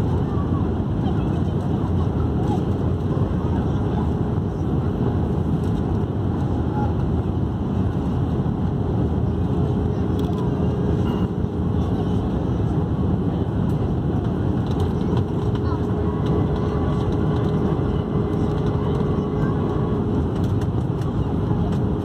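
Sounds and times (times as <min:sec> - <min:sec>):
airplane engines rumbling: 0:00.0 - 0:22.0.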